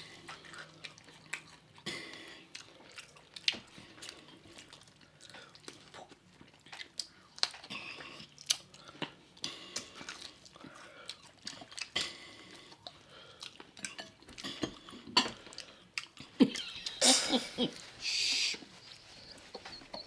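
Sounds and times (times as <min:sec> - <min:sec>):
eating clicks and smacks: 0:00.0 - 0:16.8.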